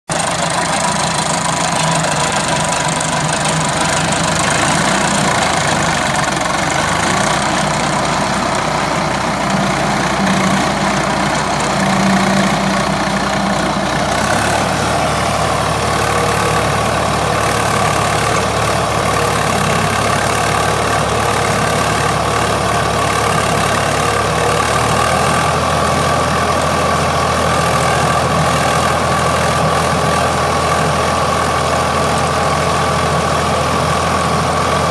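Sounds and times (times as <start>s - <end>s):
diesel tractor engine running: 0.1s - 34.9s.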